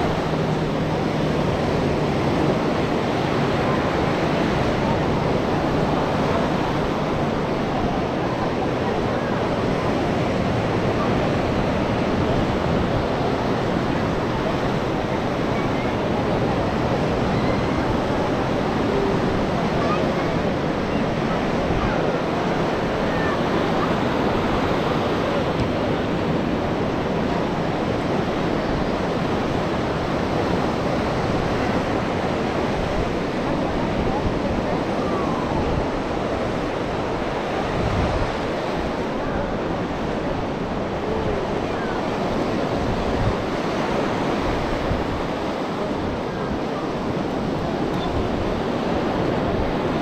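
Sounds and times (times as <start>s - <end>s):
sea surf washing onto beach: 0.0s - 50.0s
wind gusting on microphone: 0.0s - 50.0s.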